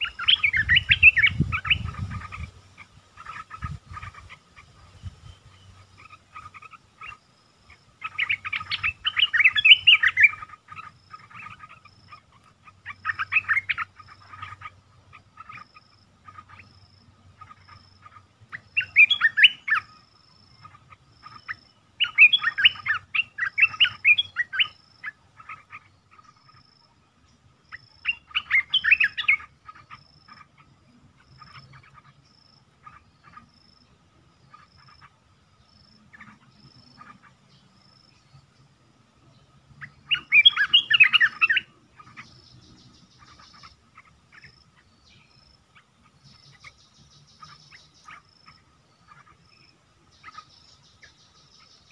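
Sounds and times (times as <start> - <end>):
bulbul singing: 0.0 - 51.9.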